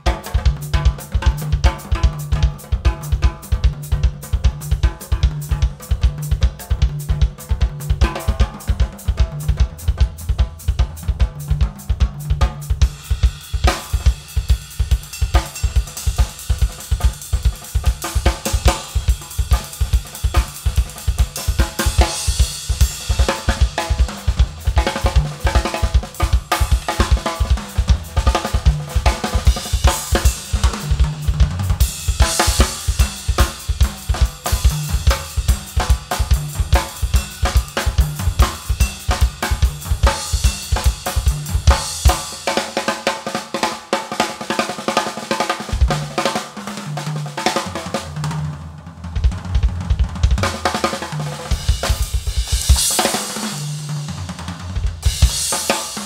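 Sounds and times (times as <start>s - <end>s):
snare and tom fills: 0.0s - 48.5s, 49.1s - 56.0s.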